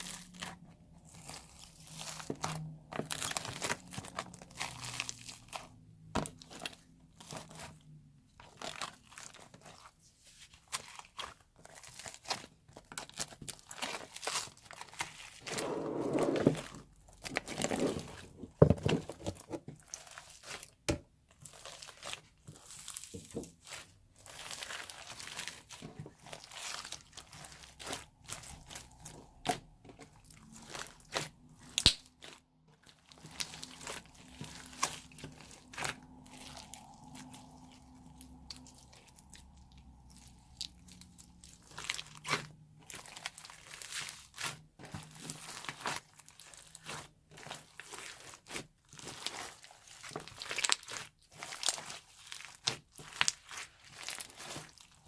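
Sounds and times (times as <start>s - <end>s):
sticky slime crackling and squishing: 0.0s - 15.6s, 16.3s - 55.0s.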